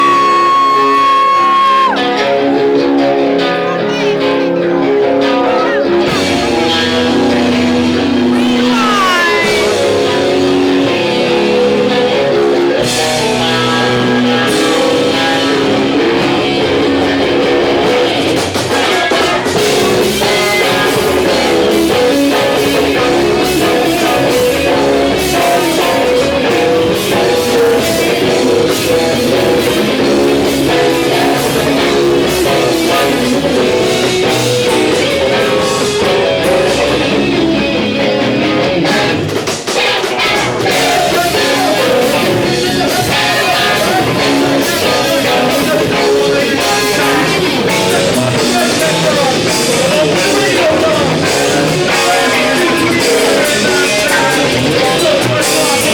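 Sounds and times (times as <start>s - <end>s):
person singing: 0.0s - 2.8s, 4.8s - 37.7s, 38.7s - 55.9s
drum kit: 0.0s - 3.4s, 5.6s - 55.9s
electric guitars: 0.0s - 55.9s.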